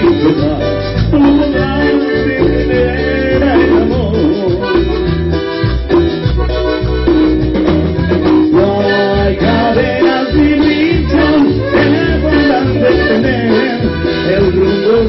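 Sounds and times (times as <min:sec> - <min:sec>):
band playing dance music: 0:00.0 - 0:15.0
bouncing bass line: 0:00.0 - 0:15.0
sustained lead melody: 0:00.0 - 0:15.0.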